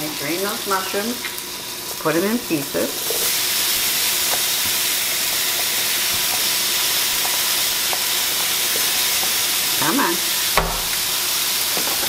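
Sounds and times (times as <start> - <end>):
food sizzling in butter: 0.0 - 12.0.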